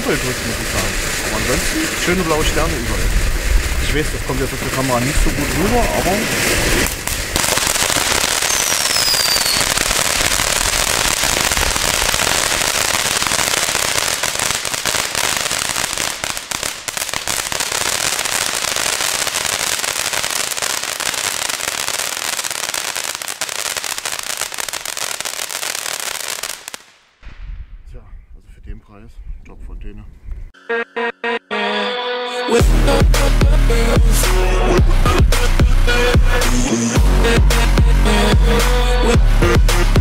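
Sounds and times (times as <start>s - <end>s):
firework fountain hissing and crackling: 0.0s - 26.9s, 32.6s - 39.0s.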